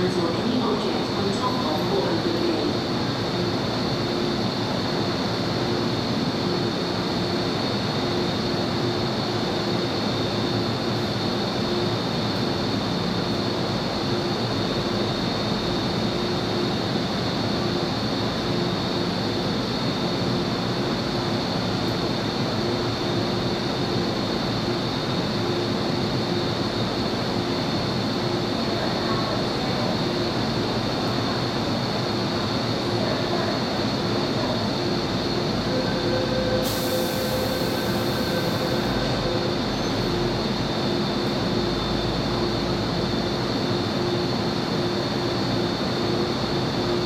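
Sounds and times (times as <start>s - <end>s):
high-pitched whine: 0.0s - 47.0s
station platform background noise: 0.0s - 47.0s.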